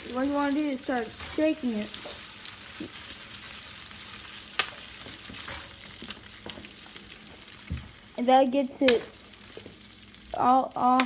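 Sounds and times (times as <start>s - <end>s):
foil pan sizzling on stovetop: 0.0s - 11.0s.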